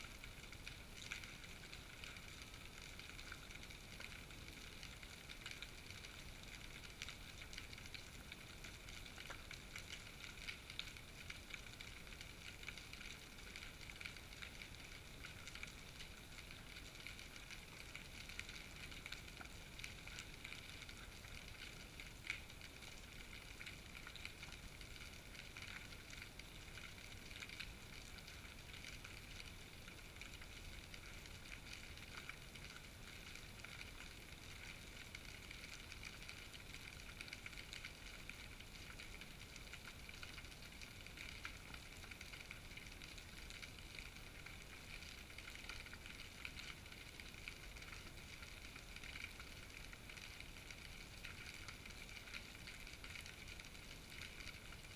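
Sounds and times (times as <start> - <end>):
underwater hiss with crackling: 0.0 - 54.9.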